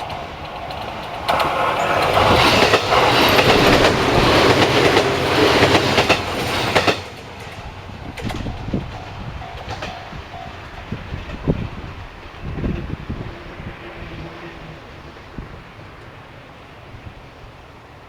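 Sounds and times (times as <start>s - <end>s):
train rumble: 0.0s - 18.0s
train wheels on rails: 0.0s - 18.0s.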